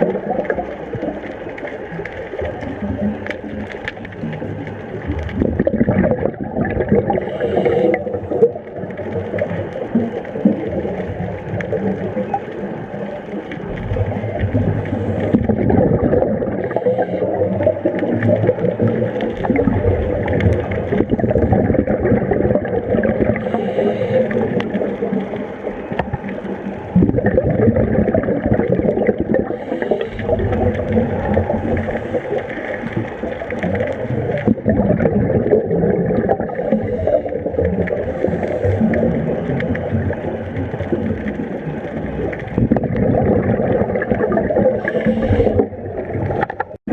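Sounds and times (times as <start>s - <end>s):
underwater regulator bubbling: 0.0s - 46.9s.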